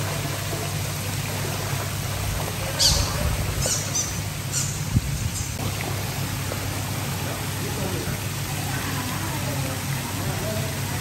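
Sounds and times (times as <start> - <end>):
fountain water spraying: 0.0 - 11.0.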